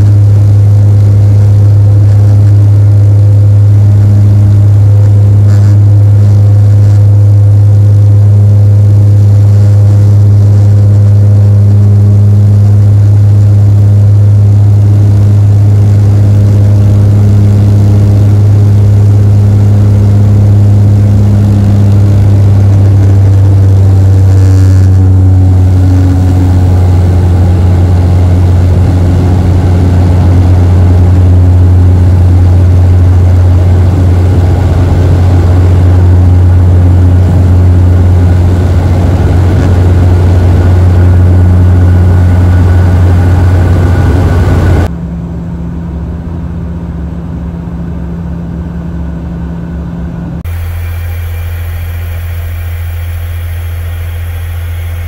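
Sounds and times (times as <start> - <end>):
steady engine tones: 0.0 - 46.5, 49.0 - 55.0
turboprop cabin drone: 0.0 - 55.0.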